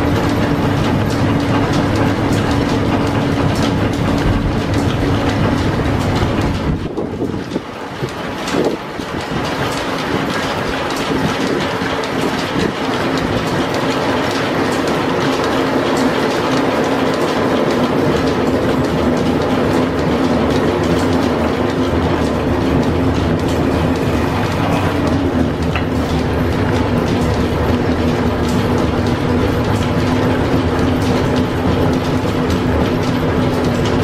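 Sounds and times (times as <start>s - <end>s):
belt drive rattling clatter: 0.0s - 34.0s
lathe running with hum: 0.0s - 34.0s.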